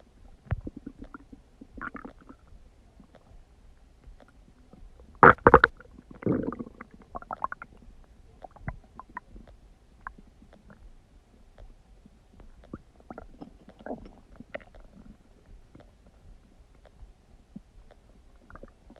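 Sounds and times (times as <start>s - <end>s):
stomach gurgling and rumbling: 0.0s - 18.9s.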